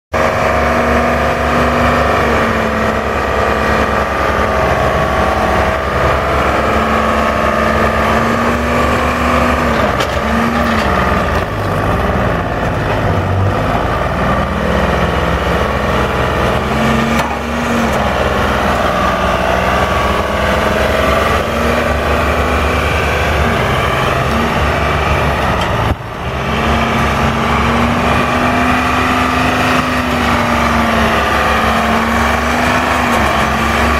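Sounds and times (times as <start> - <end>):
log loader engine under load: 0.1 - 33.9.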